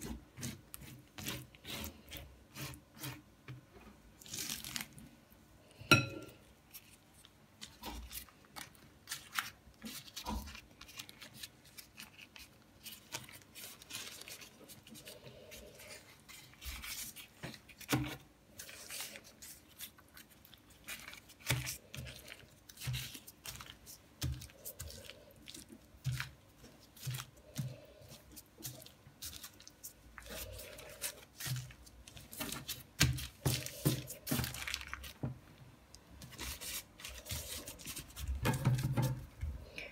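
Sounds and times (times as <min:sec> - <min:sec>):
hands rolling pastry: 0:00.0 - 0:39.9.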